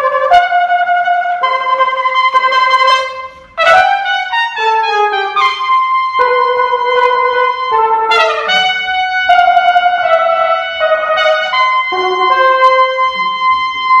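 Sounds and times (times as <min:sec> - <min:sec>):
flugelhorn: 0:00.0 - 0:14.0
trumpet: 0:00.0 - 0:14.0.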